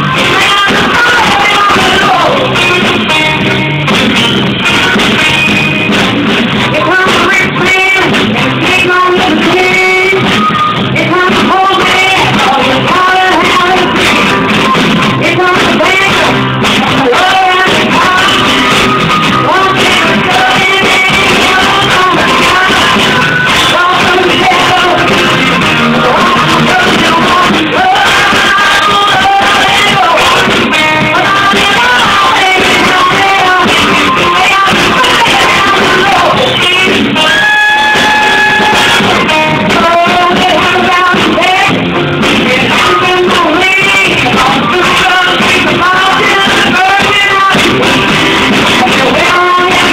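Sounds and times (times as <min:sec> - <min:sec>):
person singing lead vocal: 0:00.0 - 0:49.9
rock band playing: 0:00.0 - 0:49.9.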